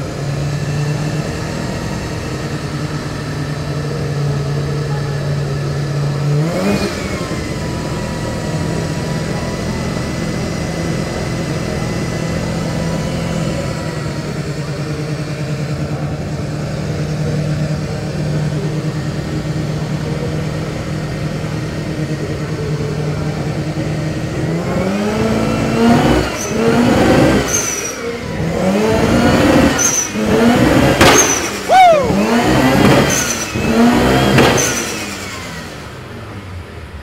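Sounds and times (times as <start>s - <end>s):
rotary engine idling and revving: 0.0s - 37.0s.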